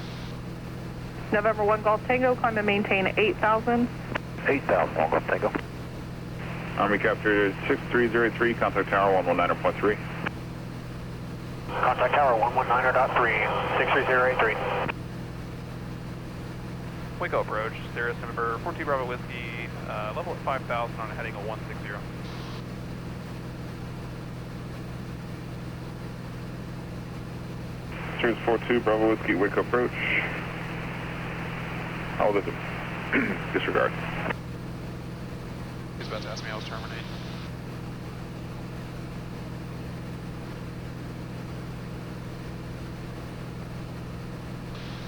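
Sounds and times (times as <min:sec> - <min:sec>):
propeller plane engine drone: 0:00.0 - 0:45.0.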